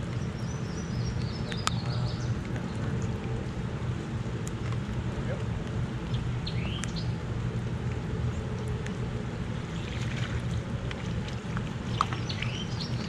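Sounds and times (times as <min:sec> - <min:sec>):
river water rumbling: 0:00.0 - 0:13.0.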